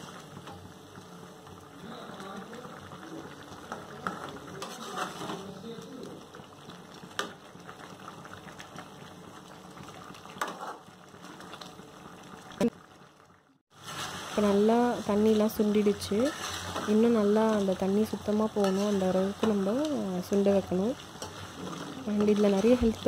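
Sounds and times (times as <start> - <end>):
gravy bubbling in a metal pan: 0.0 - 23.0.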